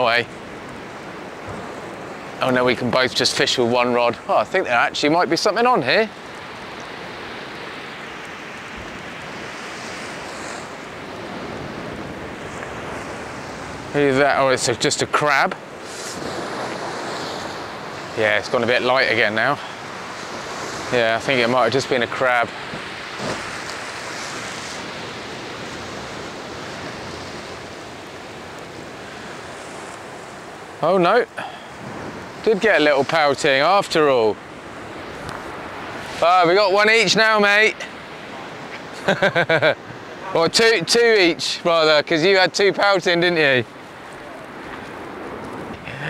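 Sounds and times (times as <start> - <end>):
sea surf washing on shore: 0.0 - 46.0.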